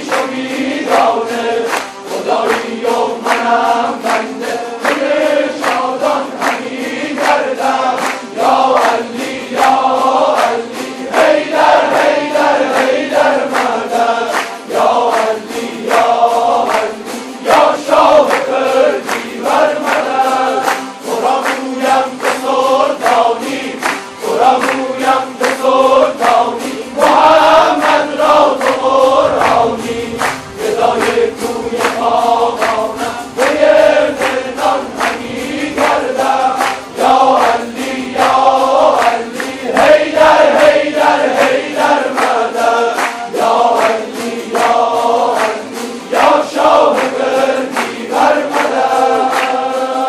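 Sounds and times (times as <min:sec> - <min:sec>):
men and women singing in chorus: 0:00.0 - 0:50.0
strummed lutes ensemble: 0:00.0 - 0:50.0.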